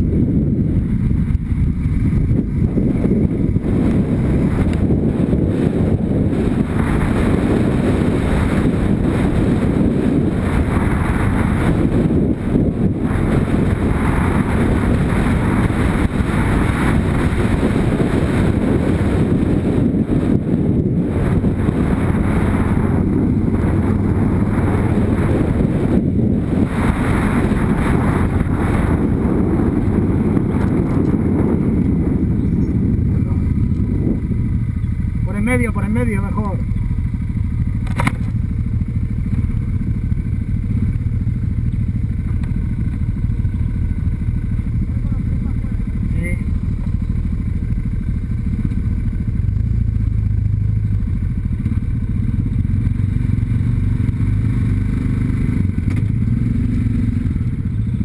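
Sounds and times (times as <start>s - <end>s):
motorcycle engine rumbling: 0.0s - 58.0s
wind buffeting microphone: 0.0s - 58.0s.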